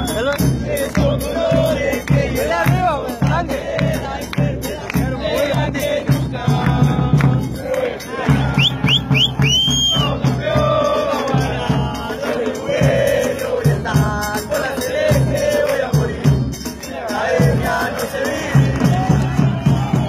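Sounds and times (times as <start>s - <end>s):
drums beating: 0.0s - 20.0s
football crowd chanting: 0.0s - 20.0s.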